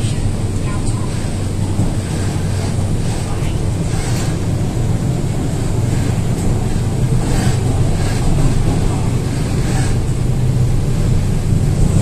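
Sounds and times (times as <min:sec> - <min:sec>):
train rumble in tunnel: 0:00.0 - 0:12.0.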